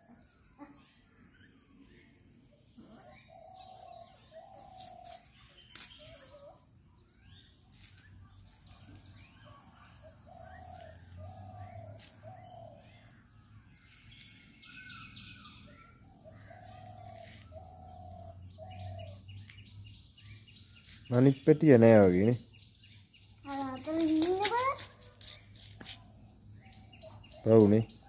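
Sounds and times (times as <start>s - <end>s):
small bird chirps: 0.0s - 28.0s.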